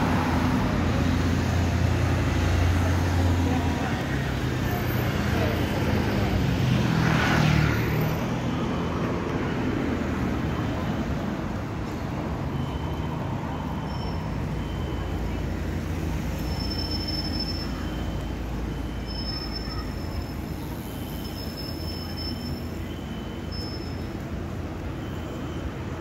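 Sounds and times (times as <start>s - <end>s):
low rumble of traffic: 0.0s - 26.0s.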